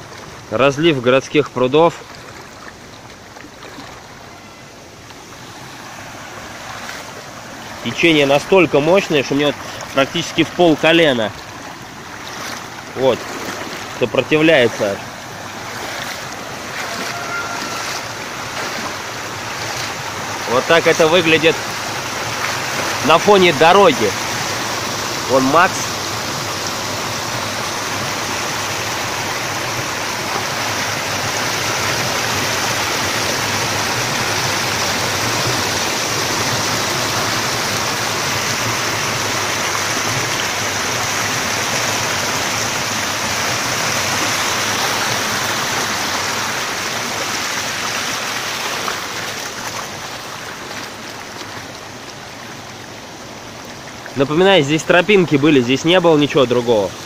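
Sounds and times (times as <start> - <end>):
water cascading over stone: 5.0 - 57.0.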